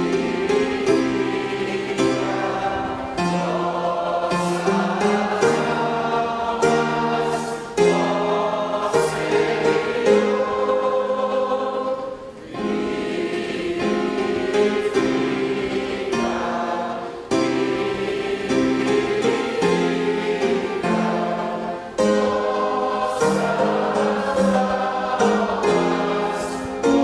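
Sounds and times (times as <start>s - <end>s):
congregation singing a hymn: 0.0s - 27.0s
piano accompaniment: 0.0s - 27.0s.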